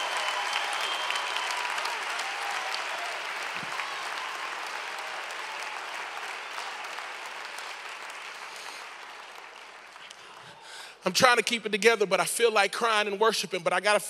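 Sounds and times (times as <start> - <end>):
congregation applauding: 0.0 - 11.5.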